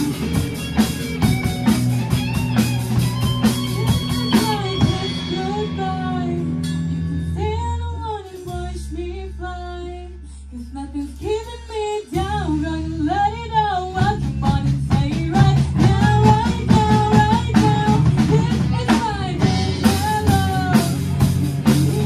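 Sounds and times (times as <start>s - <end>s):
drums: 0.0s - 22.0s
electric guitar and bass chords: 0.0s - 22.0s
girl singing: 3.6s - 22.0s.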